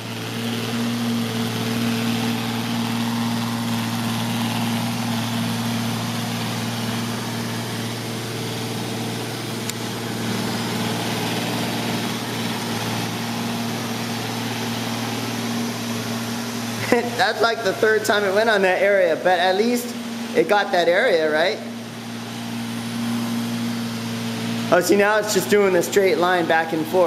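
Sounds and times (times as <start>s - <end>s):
robotic vacuum cleaner running: 0.0s - 27.0s.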